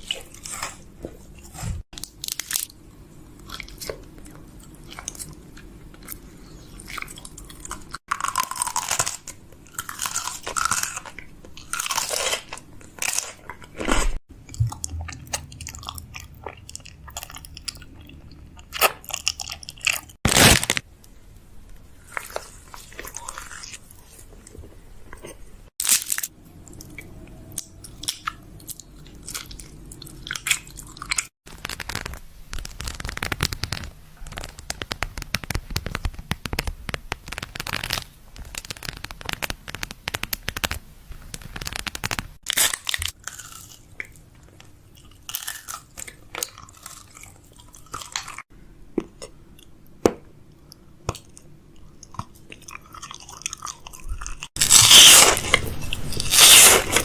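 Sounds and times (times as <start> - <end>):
crunching food: 0.0 - 20.9, 22.0 - 49.7, 50.6 - 57.0.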